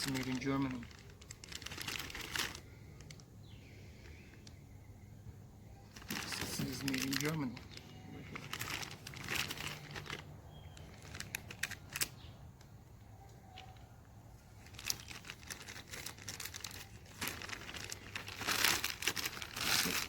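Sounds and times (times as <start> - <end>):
packaging crinkling and rustling: 0.0 - 4.6, 5.8 - 12.3, 14.4 - 20.0.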